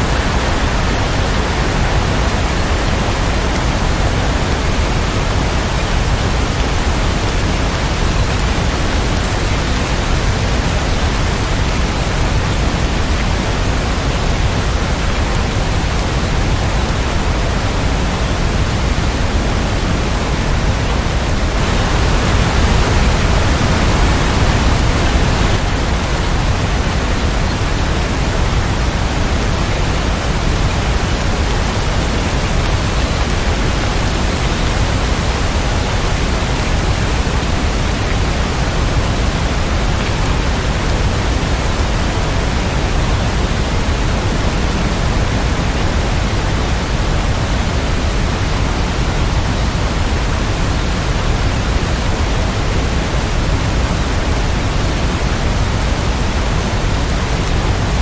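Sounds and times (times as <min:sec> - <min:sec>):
steady dense rain: 0:00.0 - 0:58.0.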